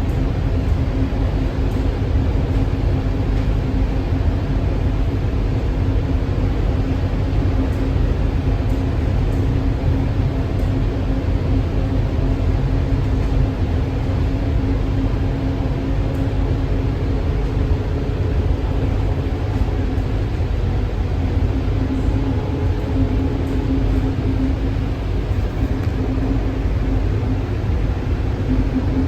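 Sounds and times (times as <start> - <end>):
constant hum: 0.0 - 29.0.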